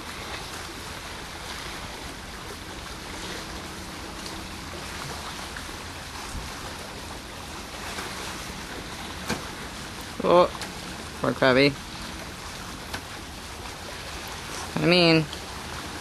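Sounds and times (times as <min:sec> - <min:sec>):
wind and water washing: 0:00.0 - 0:16.0
wind rumbling on microphone: 0:00.0 - 0:16.0.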